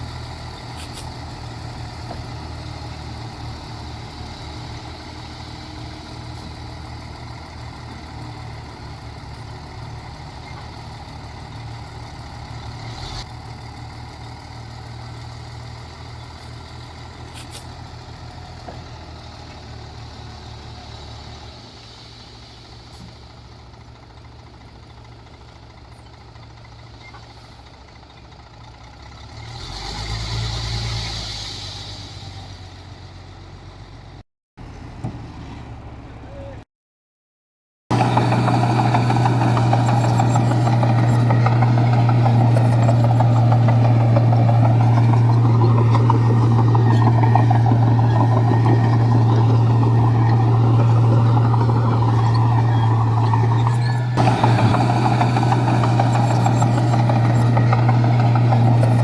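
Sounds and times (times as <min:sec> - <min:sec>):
heavy diesel engine running: 0:00.0 - 0:29.2, 0:37.9 - 0:59.0.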